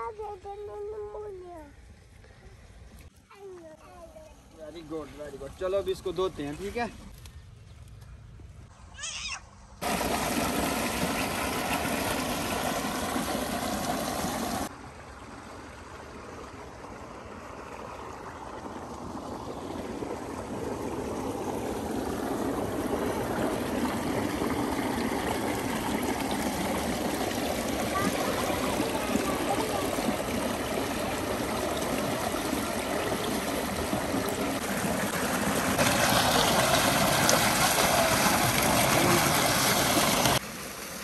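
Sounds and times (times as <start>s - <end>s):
water running in a channel: 0.0s - 7.2s, 9.8s - 41.0s.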